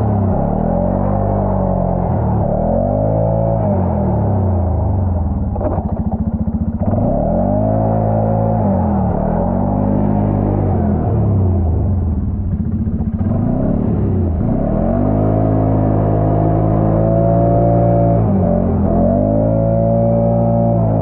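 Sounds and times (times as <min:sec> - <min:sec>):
four-wheeler engine revving: 0:00.0 - 0:21.0.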